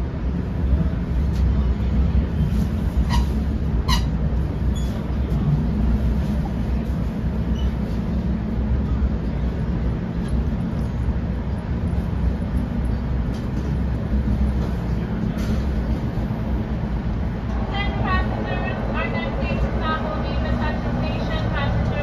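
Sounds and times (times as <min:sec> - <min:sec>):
train coach rumble and hum: 0:00.0 - 0:22.0.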